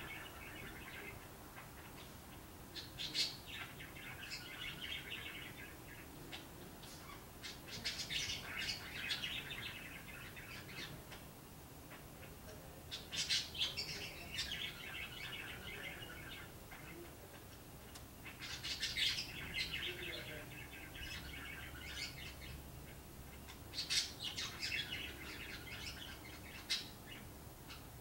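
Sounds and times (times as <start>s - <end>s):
small bird chirping: 0.0s - 17.2s, 17.9s - 28.0s.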